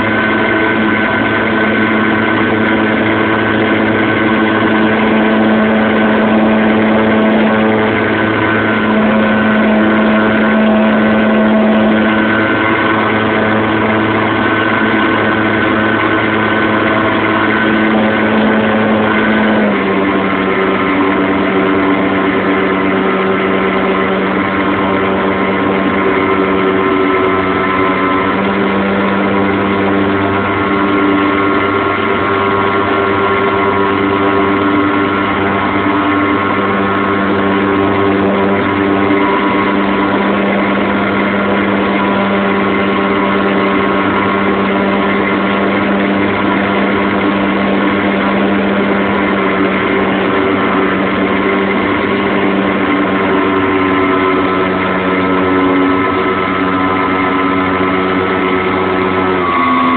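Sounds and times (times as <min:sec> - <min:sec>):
model airplane engine running: 0:00.0 - 0:59.9.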